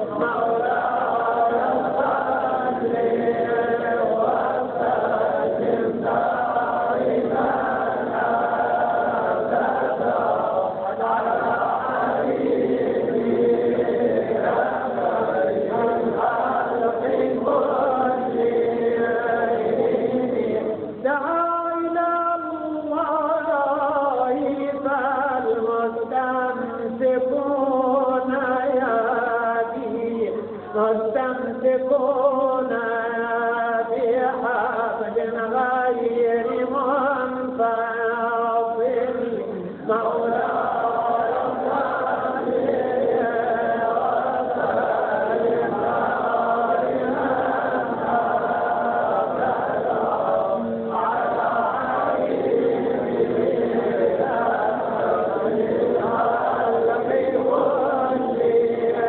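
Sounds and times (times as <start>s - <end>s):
person chanting a melody: 0.0s - 59.0s.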